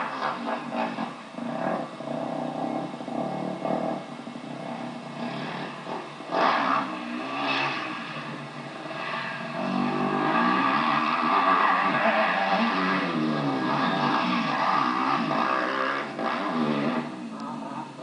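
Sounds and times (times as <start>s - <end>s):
loud rush of noise: 0.0s - 18.0s
motocross bike engine revving: 0.0s - 18.0s.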